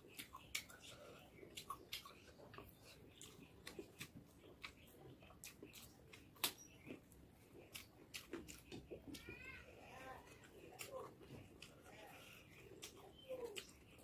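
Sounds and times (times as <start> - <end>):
chewing with wet mouth clicks: 0.0 - 9.4, 10.1 - 14.0.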